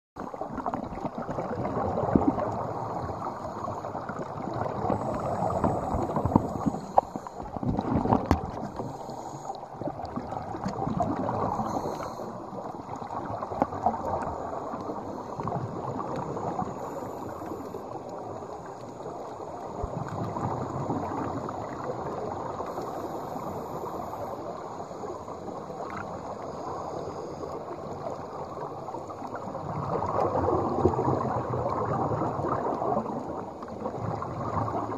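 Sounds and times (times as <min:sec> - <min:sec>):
underwater bubbling and gurgling: 0:00.2 - 0:34.9.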